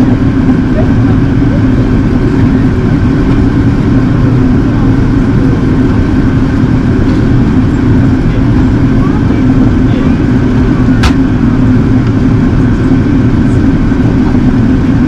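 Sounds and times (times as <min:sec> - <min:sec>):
airplane cabin drone: 0:00.0 - 0:15.0.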